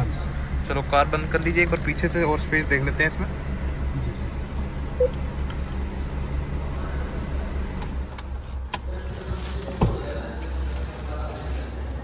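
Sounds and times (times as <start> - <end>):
car engine idling: 0.0 - 11.6.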